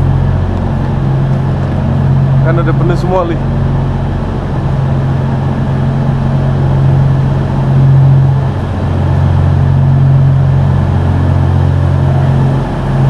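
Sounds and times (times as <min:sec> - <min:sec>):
train machinery humming: 0:00.0 - 0:13.0.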